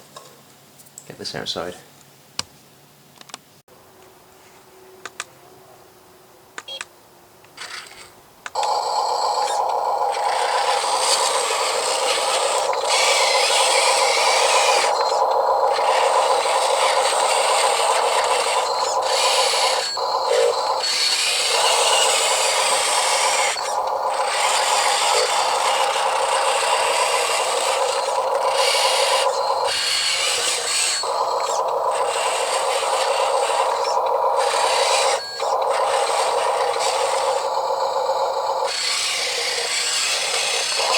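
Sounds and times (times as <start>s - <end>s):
toy truck motor whirring: 7.5s - 40.9s.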